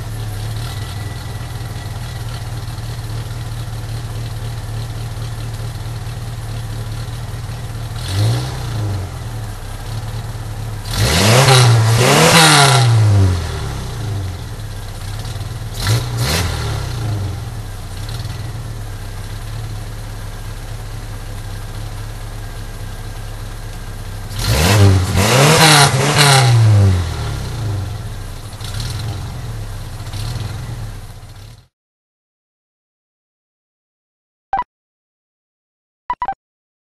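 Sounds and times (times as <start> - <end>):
car engine idling and revving: 0.0 - 31.7.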